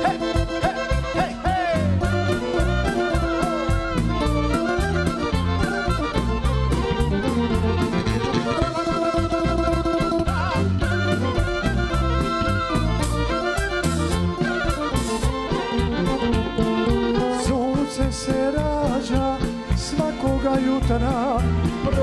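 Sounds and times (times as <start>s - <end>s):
accordion: 0.0s - 22.0s
clarinet: 0.0s - 22.0s
folk band playing: 0.0s - 22.0s
steady drum beat: 0.0s - 22.0s
violin: 0.0s - 22.0s.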